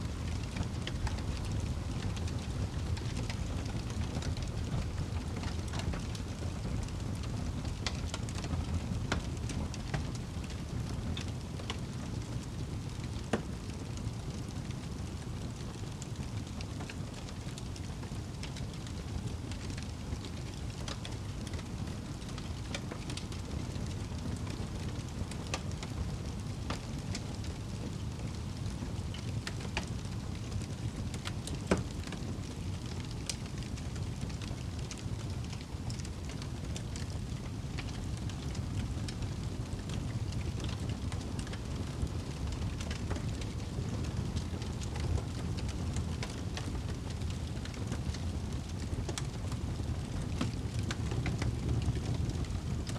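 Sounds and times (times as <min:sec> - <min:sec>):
low rumble of flames: 0:00.0 - 0:52.9
wood fire popping and snapping: 0:00.0 - 0:52.9.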